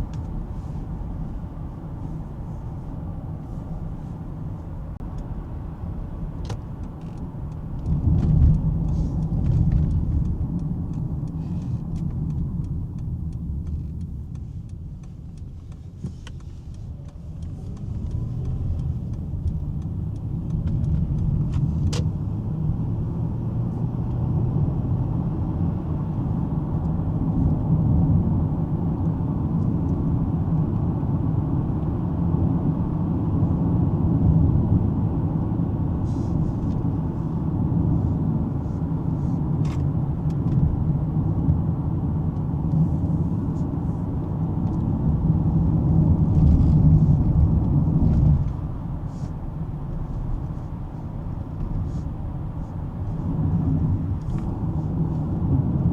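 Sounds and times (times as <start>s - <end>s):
car cabin road and engine rumble: 0.0s - 55.9s.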